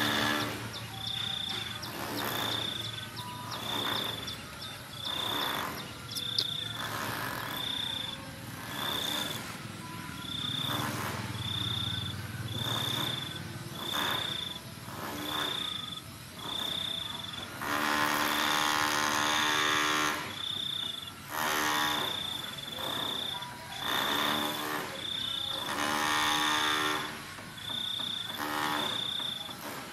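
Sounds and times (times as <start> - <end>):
insect chirping: 0.0 - 29.6.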